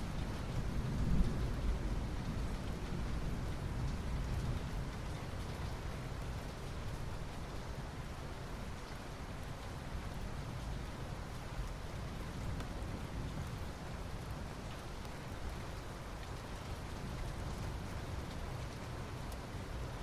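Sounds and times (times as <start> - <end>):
soft rain on asphalt: 0.0 - 20.0.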